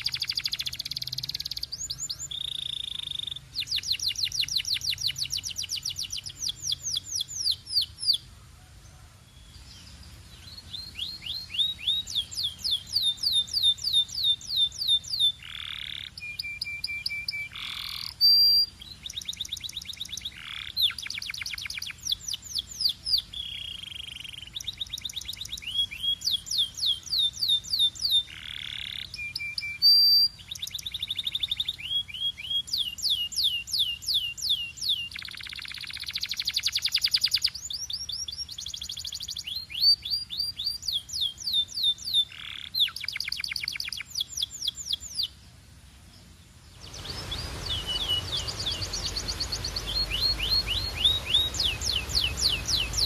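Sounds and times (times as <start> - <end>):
canary singing: 0.0 - 8.3, 10.4 - 45.3, 46.8 - 53.0.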